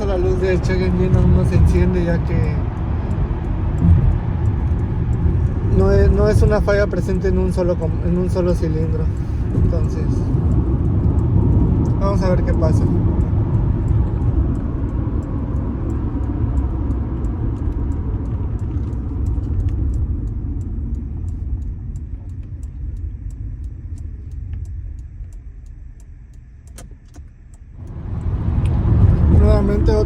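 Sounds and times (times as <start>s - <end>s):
car engine and road noise: 0.0s - 30.0s
faint rapid ticking: 0.0s - 30.0s.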